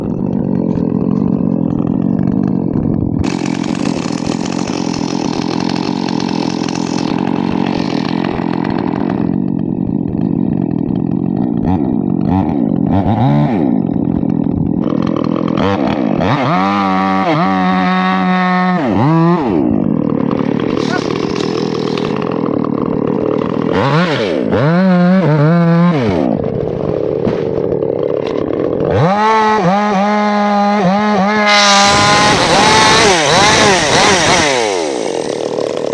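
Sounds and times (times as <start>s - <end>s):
chainsaw engine revving: 0.0s - 35.9s.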